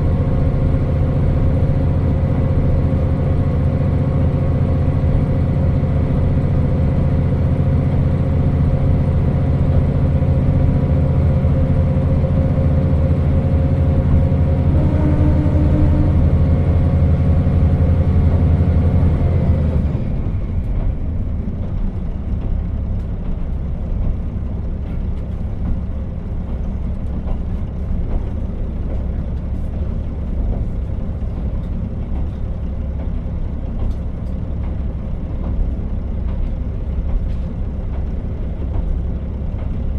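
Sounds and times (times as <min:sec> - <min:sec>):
diesel engine droning: 0:00.0 - 0:39.9
wheel and rail rumble: 0:00.0 - 0:39.9.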